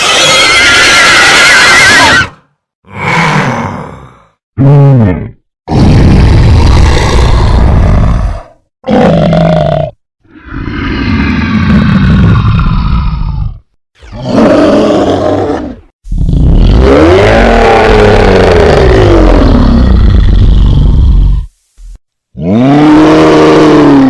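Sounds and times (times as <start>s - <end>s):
monster roars: 0.0s - 21.5s, 22.4s - 24.0s.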